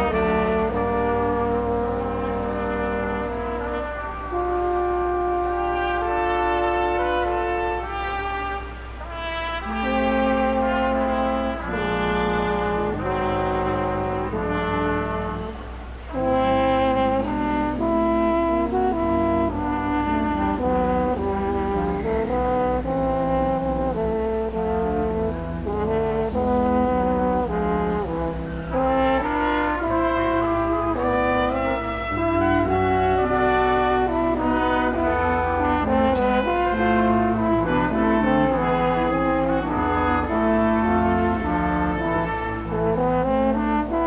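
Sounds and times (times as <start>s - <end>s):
brass ensemble playing chords: 0.0s - 44.0s.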